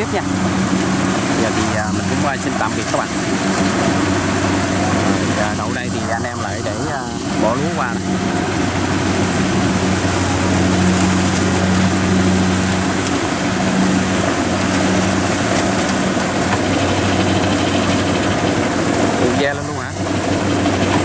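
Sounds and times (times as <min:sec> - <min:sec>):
diesel engines droning: 0:00.0 - 0:21.0.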